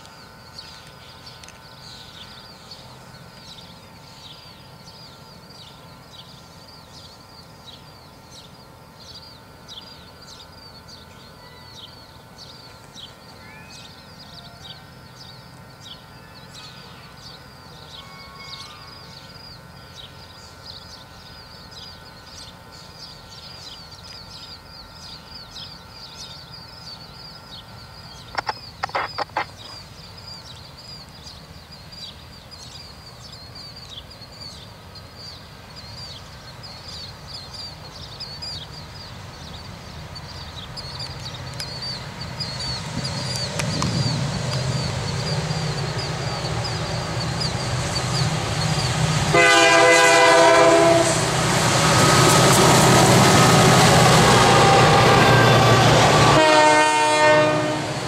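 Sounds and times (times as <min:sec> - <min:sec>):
diesel locomotive rumble: 0:00.0 - 0:58.0
bird chirping: 0:00.1 - 0:49.3.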